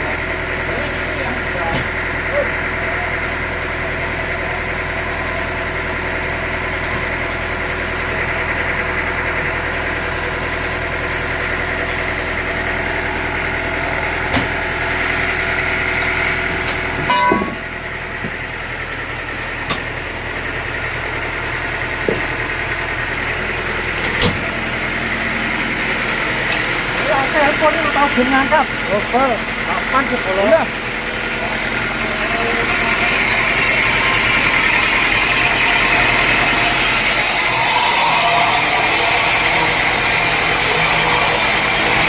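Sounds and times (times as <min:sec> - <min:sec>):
sawmill machinery humming: 0:00.0 - 0:42.0.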